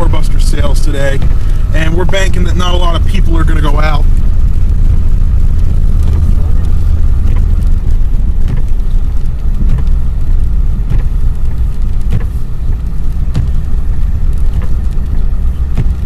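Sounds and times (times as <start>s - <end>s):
faint ticking: 0.0s - 16.0s
vehicle engine and tyres rumbling: 0.0s - 16.0s.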